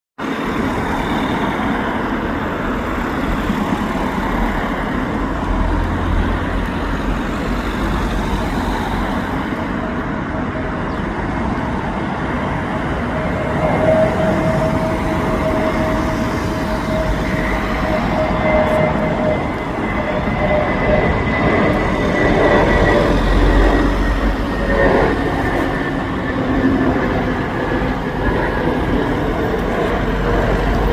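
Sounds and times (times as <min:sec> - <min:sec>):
jet engine roar: 0:00.2 - 0:30.9.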